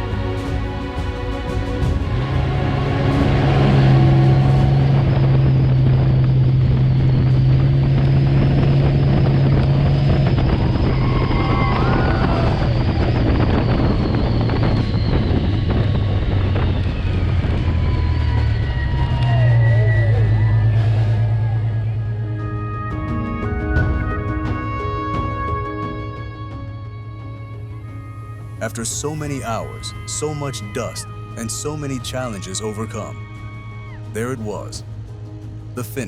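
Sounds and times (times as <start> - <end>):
truck engine droning: 0.0 - 36.0.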